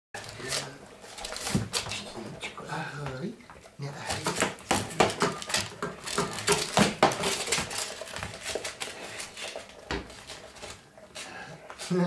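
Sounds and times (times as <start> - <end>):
dog eating from metal bowl: 0.2 - 11.1.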